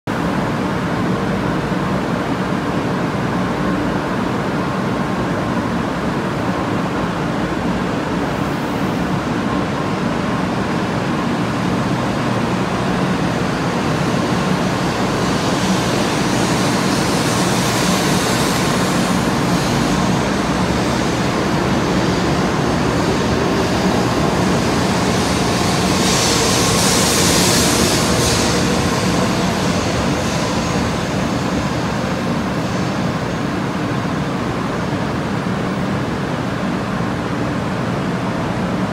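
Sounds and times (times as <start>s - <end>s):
train rumbling past: 0.1s - 38.9s
train hiss: 6.0s - 37.4s.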